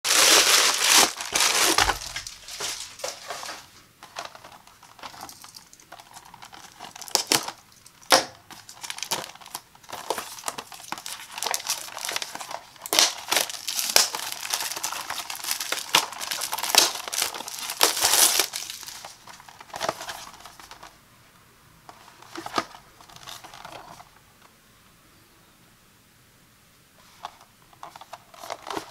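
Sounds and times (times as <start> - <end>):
plastic mailer crinkling: 0.0 - 21.0, 22.1 - 24.1, 27.3 - 28.9.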